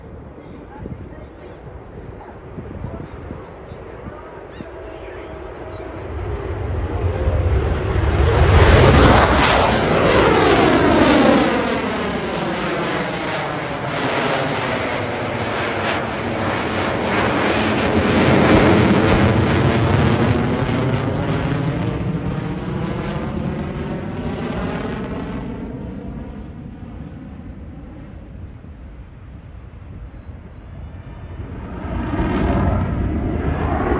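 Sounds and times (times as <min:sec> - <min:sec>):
jet engine roar passing: 0:00.0 - 0:33.9.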